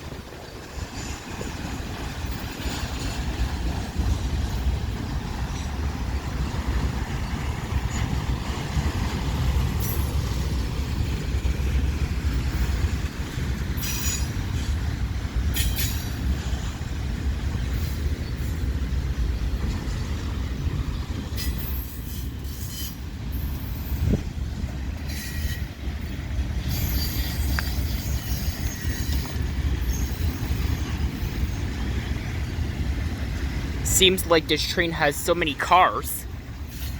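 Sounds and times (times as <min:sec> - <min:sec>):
train wheels rumbling on rails: 0:00.0 - 0:36.9.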